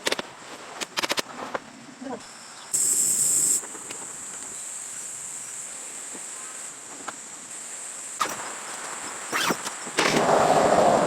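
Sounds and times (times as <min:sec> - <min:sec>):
faint background hiss: 0:00.0 - 0:11.0
insects chirring: 0:00.1 - 0:11.0.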